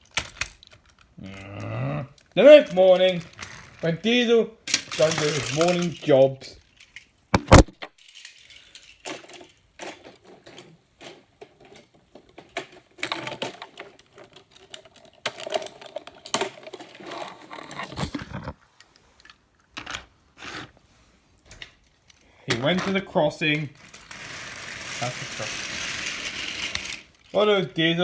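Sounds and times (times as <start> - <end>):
toy trains clattering on track: 0.0 - 20.0, 21.5 - 28.0.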